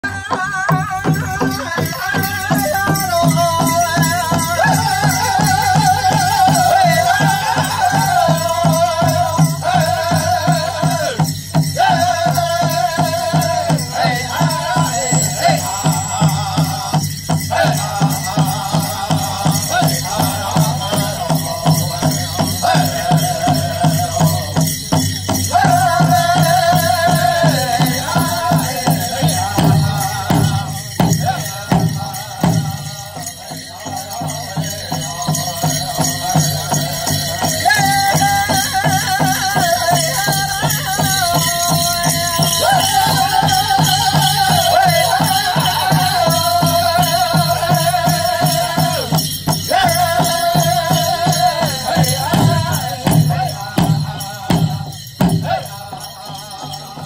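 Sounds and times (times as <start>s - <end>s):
big drum beat: 0.0s - 57.0s
group singing high wavering voices: 0.0s - 57.0s.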